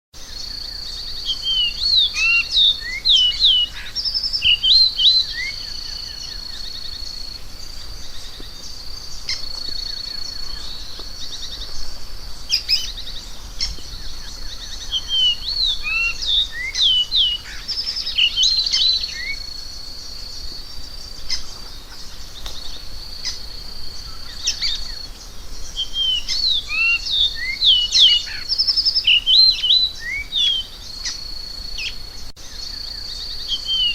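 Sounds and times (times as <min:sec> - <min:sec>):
bird whistled song: 0:00.3 - 0:11.9, 0:12.5 - 0:23.4, 0:24.0 - 0:33.9.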